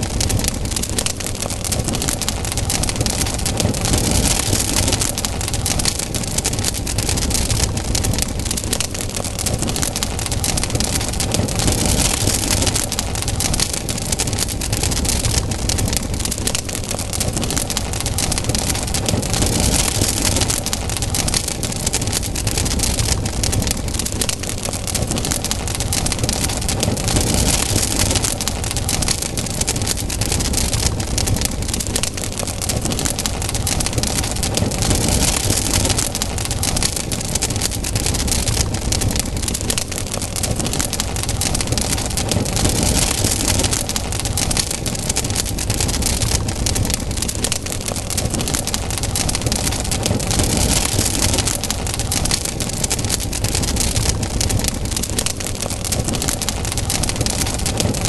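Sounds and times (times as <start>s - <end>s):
campfire crackling and hissing: 0.0s - 58.0s.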